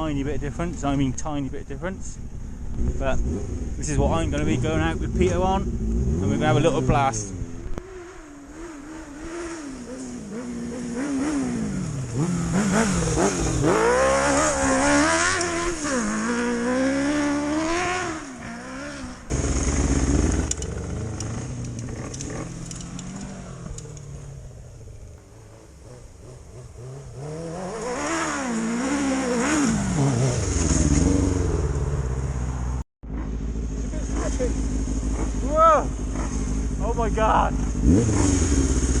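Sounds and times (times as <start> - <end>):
motorcycle engine revving: 2.0 - 39.0.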